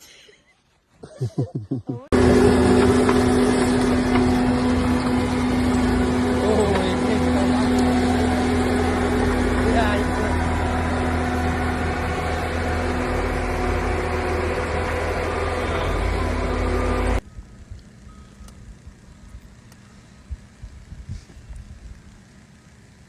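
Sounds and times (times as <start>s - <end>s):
vehicle engine drone: 1.2s - 23.0s.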